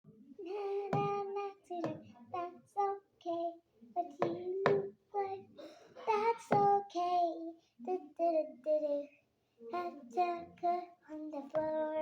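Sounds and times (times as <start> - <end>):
young child singing: 0.4 - 12.0.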